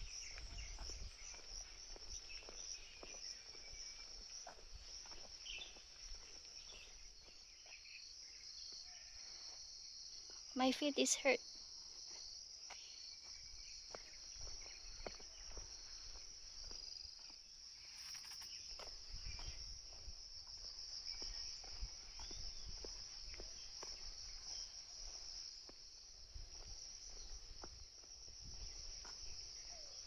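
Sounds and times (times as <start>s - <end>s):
footsteps on a trail: 0.0s - 10.5s, 11.5s - 30.0s
insects buzzing: 0.0s - 30.0s.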